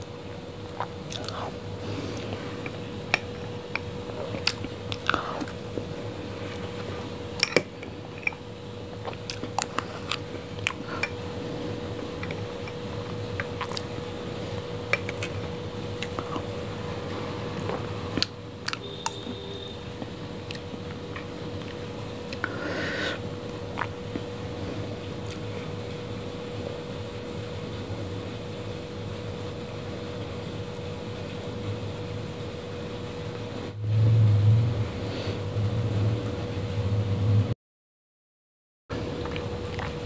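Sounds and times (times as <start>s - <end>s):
faint hum: 0.0s - 37.6s, 38.9s - 40.0s.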